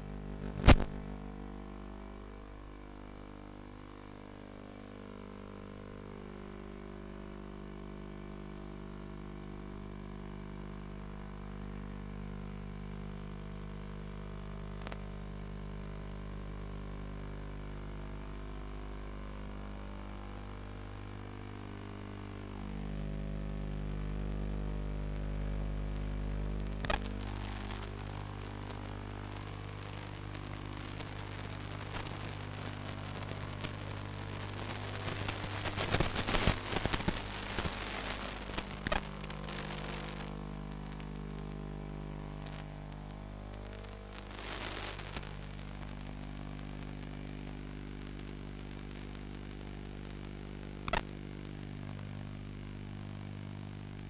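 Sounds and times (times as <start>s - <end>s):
crackling static and clicks: 0.0s - 54.0s
electrical hum and hiss: 0.0s - 54.0s.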